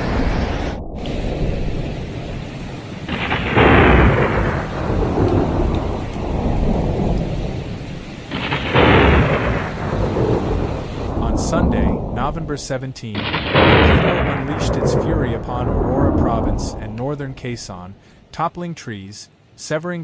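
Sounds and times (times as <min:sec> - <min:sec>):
thunder rumbles: 0:00.0 - 0:18.2
heavy rain: 0:00.0 - 0:18.5.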